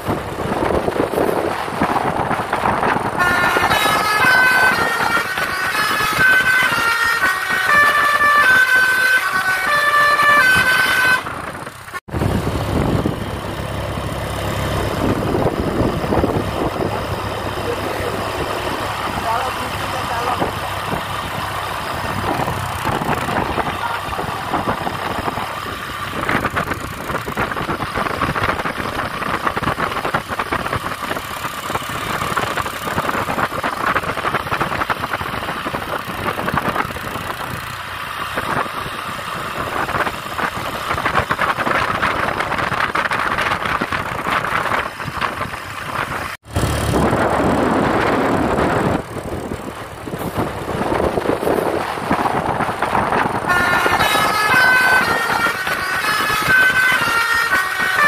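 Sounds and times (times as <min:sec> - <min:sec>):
vehicle engines running: 0:00.0 - 0:58.0.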